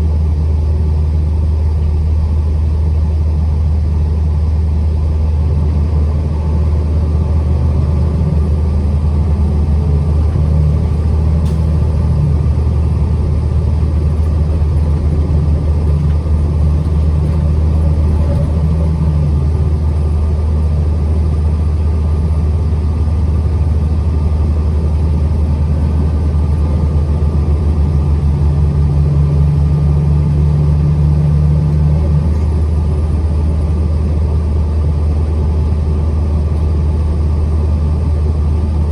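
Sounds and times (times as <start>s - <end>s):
road rumble: 0.0s - 38.9s
truck engine drone: 0.0s - 38.9s.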